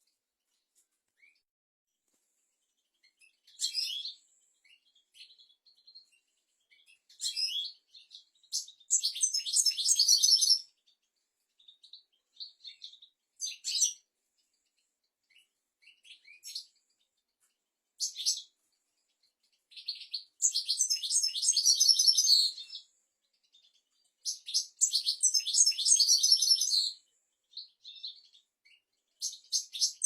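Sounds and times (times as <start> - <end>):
finch singing: 2.7 - 17.4, 18.0 - 30.0.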